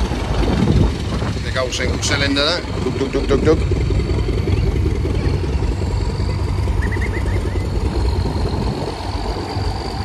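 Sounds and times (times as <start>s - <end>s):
single-cylinder engine running: 0.0s - 10.0s
wind rumble on microphone: 0.0s - 10.0s.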